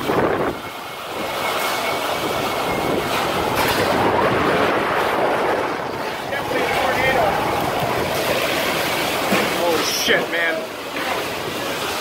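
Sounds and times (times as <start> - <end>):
wind and rain against windows: 0.0 - 12.0.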